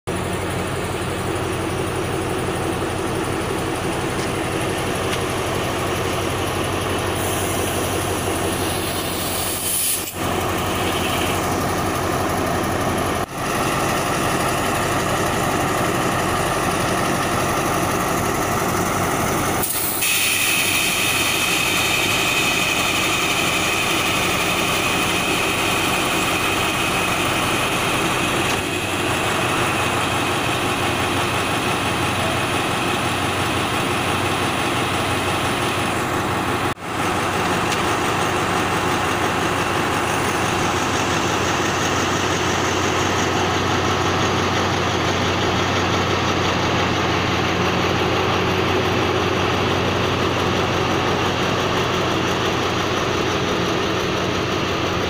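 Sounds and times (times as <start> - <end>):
diesel locomotive engine running: 0.1 - 55.0.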